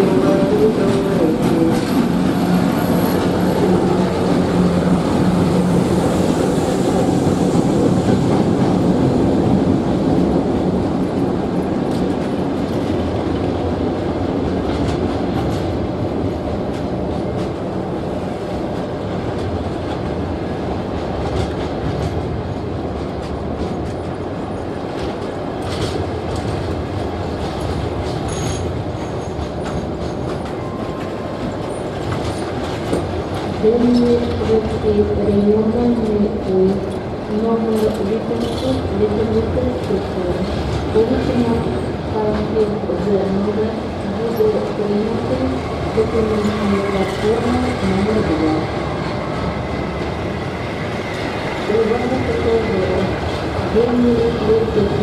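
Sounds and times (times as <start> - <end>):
train rolling rumble: 0.0 - 55.0.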